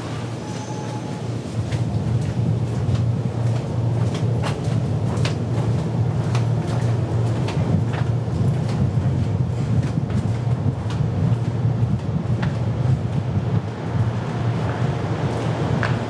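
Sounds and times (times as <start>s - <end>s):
steady low rumble: 1.2s - 16.0s
footsteps walking: 1.5s - 16.0s.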